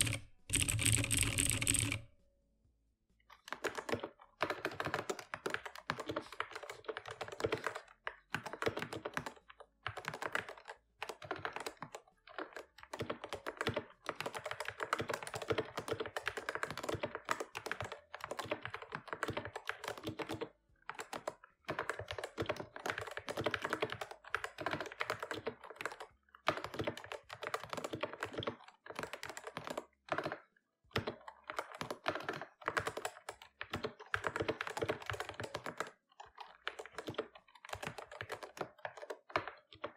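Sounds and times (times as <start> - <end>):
mechanical keyboard typing: 0.0 - 2.1, 3.4 - 39.9.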